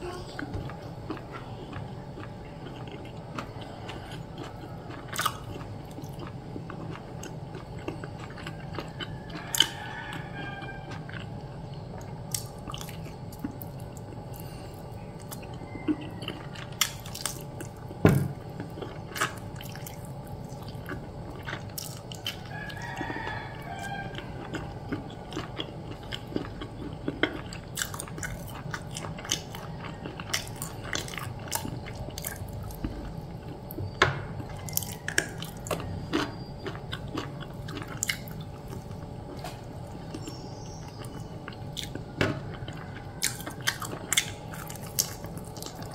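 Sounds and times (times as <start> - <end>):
chewing fried chicken: 0.0 - 45.9
low background hum: 0.0 - 45.9.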